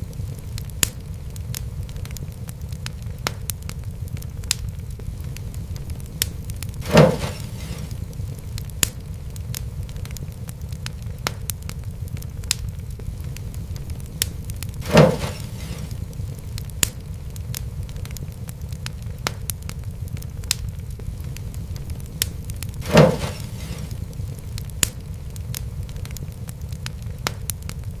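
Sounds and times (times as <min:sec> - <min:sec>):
loud fire pops: 0:00.0 - 0:28.0
wood fire crackling: 0:00.0 - 0:28.0.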